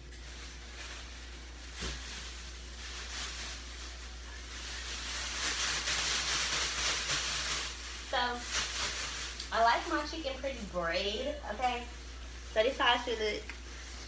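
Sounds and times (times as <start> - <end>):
chicken shaken in plastic bag: 0.0 - 14.0.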